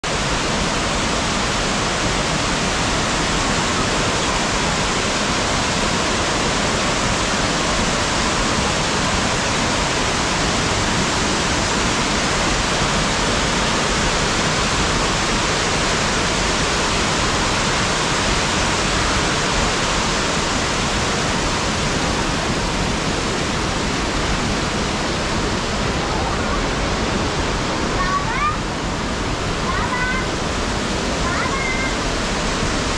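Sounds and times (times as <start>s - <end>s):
floodwater running over ground: 0.0s - 32.9s
waterfall rushing: 0.0s - 32.9s.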